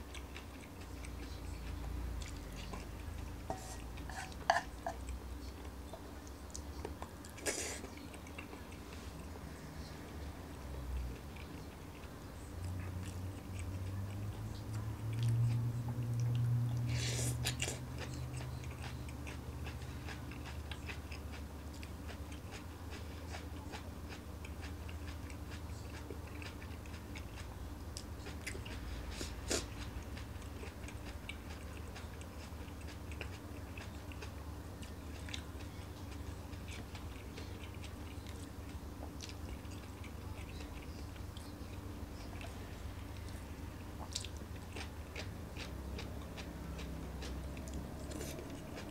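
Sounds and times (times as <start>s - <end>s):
person chewing: 0.0s - 10.3s, 10.9s - 48.9s.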